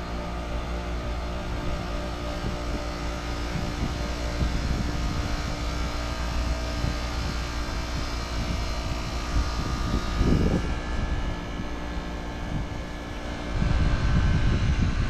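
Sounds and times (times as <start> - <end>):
heat pump hum and rush: 0.0 - 15.0.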